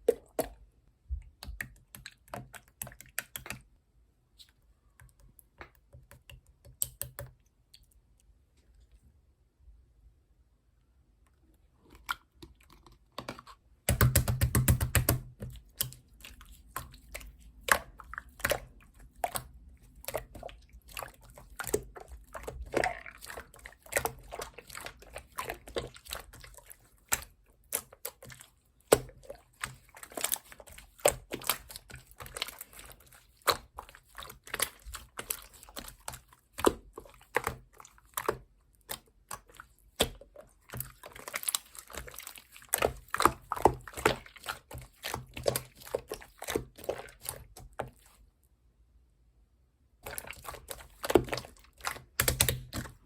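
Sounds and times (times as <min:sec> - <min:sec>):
slime clicking and squelching: 0:00.0 - 0:03.7, 0:04.4 - 0:08.3, 0:13.8 - 0:48.2, 0:50.0 - 0:53.0.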